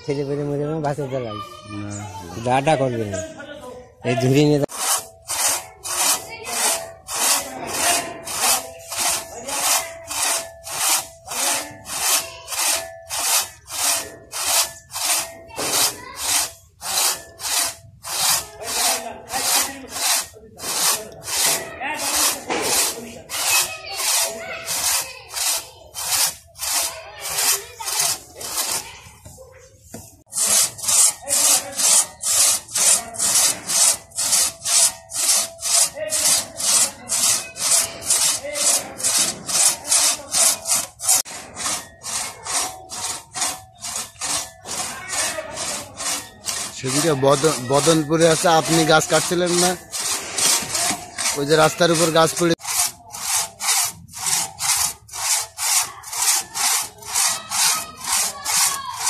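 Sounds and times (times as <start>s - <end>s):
crosscut saw rasping through log: 4.1s - 29.1s, 29.9s - 59.0s.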